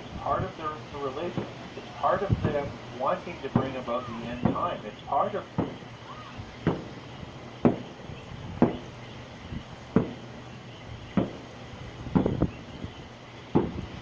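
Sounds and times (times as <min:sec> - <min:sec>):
distant firework bangs: 0:01.2 - 0:14.0.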